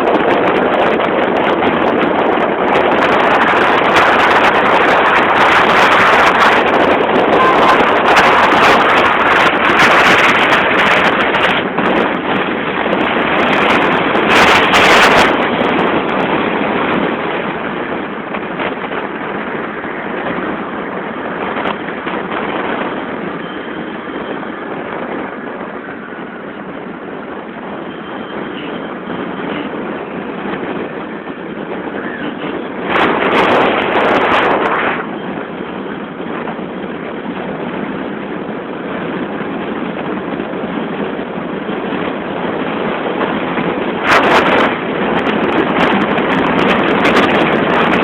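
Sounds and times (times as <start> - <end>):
car road and wind noise: 0.0 - 48.0.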